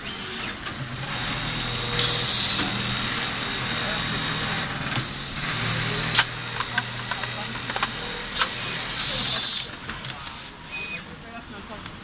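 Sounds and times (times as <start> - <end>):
compressed air hissing bursts: 0.0 - 11.0
valve clicks: 0.0 - 11.0
steady machine hum: 0.0 - 12.0.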